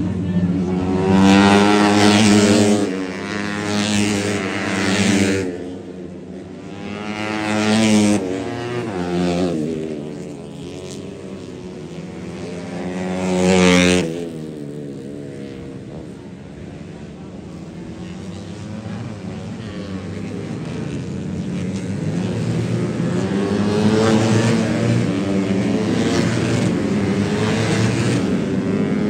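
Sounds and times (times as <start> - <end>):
motorcycles passing at high revs: 0.0 - 29.0.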